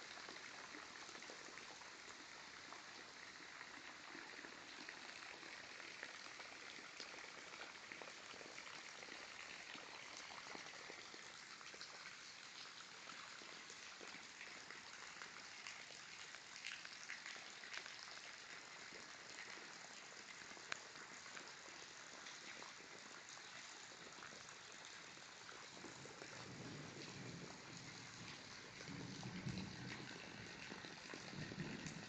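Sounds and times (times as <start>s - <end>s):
rain falling steadily: 0.0s - 32.0s.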